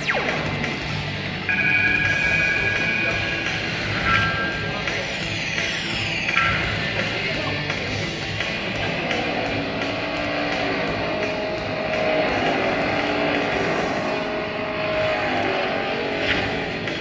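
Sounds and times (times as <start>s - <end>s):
motorcycle engines running: 0.0s - 17.0s
rock music with steady beat: 0.0s - 17.0s.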